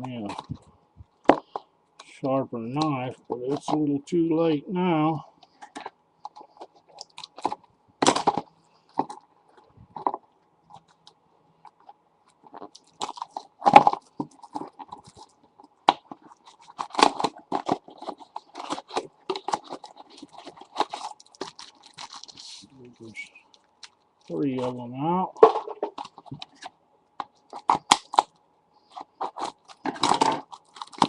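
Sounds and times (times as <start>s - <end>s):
plastic packaging crinkling: 5.4s - 24.7s, 25.4s - 31.0s.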